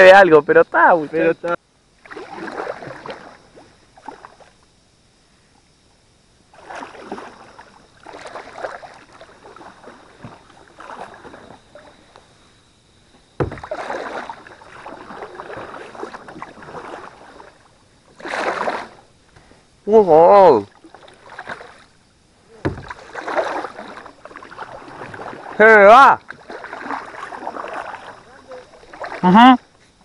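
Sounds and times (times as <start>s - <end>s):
water sloshing around kayak: 0.0s - 30.0s.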